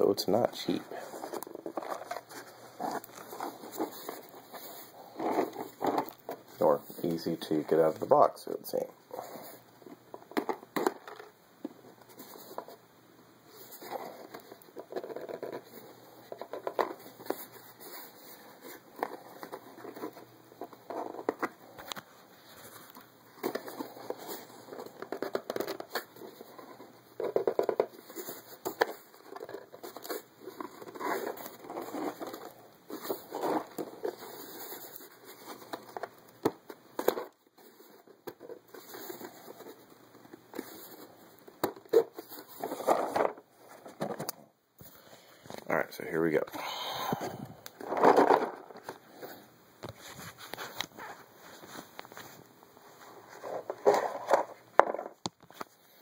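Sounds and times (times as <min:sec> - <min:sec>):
cardboard packaging rustling: 0:00.0 - 0:12.8, 0:13.5 - 0:45.1, 0:47.3 - 0:56.0.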